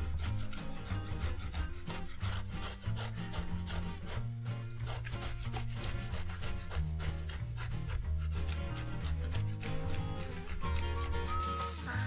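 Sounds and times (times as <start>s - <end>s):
grater rasping strokes: 0.0s - 12.0s.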